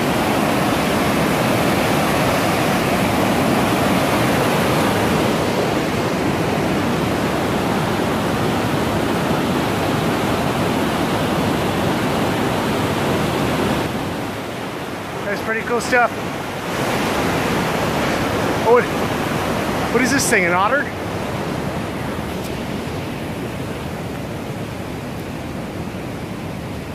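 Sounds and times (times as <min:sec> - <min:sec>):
creek rushing over boulders: 0:00.0 - 0:26.9.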